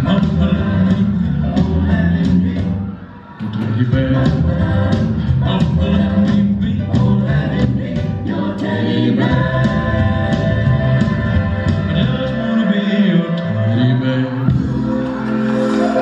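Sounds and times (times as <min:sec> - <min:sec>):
song with singing voices: 0:00.0 - 0:16.0.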